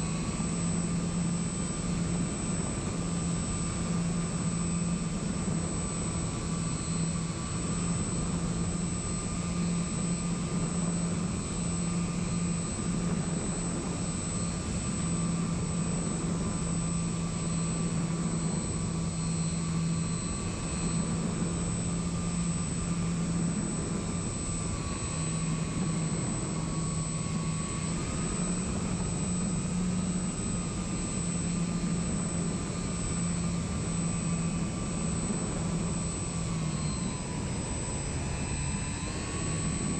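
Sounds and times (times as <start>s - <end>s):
low hum: 0.0s - 39.9s
model plane electric motor whine: 0.0s - 39.9s.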